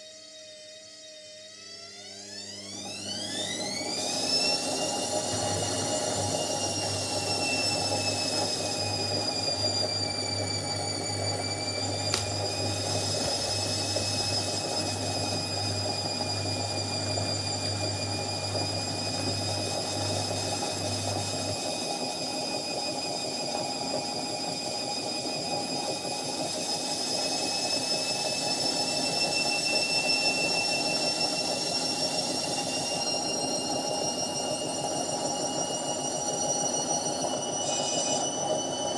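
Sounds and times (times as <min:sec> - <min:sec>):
washing machine spinning: 0:00.8 - 0:38.9.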